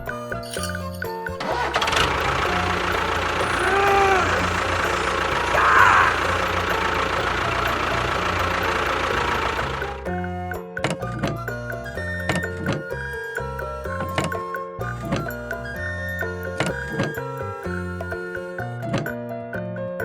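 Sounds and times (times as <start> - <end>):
music: 0.0 - 20.0
engine rumbling: 0.9 - 19.2.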